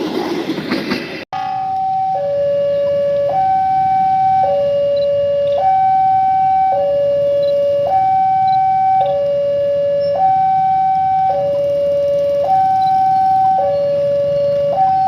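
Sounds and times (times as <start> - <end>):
two-tone warning siren: 1.4 - 15.0.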